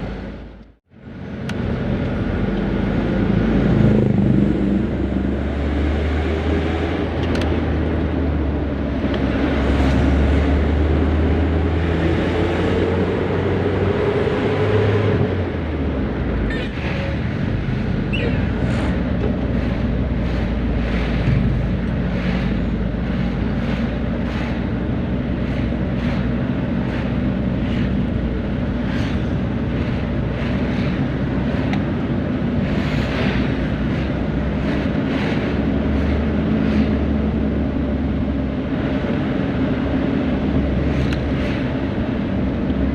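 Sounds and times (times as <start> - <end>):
minibus engine running: 0.0 - 42.9.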